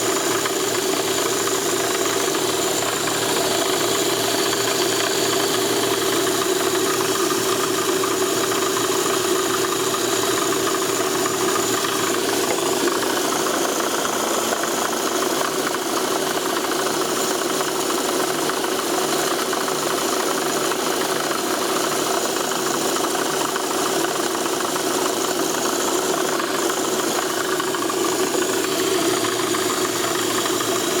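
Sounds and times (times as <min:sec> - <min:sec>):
knocking rattle from engine bay: 0:00.0 - 0:20.3, 0:21.0 - 0:31.0
car engine running: 0:00.0 - 0:31.0.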